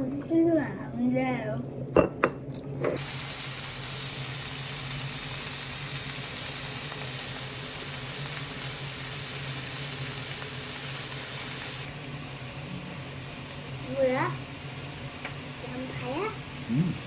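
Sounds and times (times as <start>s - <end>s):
meat sizzling in a frying pan: 3.0s - 17.0s.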